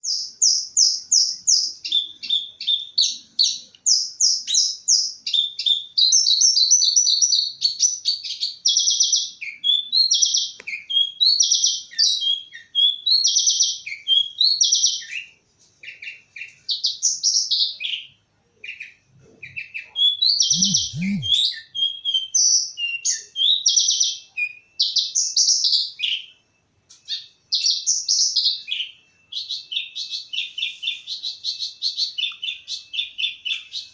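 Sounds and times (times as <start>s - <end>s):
bird singing trills and chirps: 0.0s - 33.9s.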